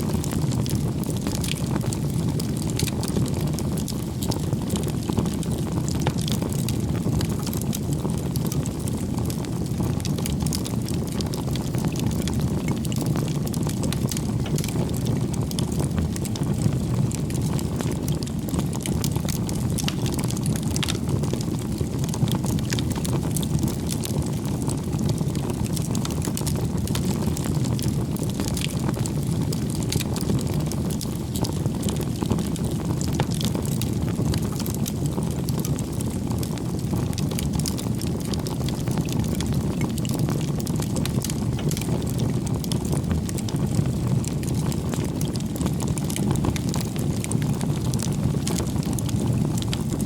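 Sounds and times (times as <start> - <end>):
rush of flame: 0.0 - 50.0
wood crackling and popping: 0.0 - 50.0.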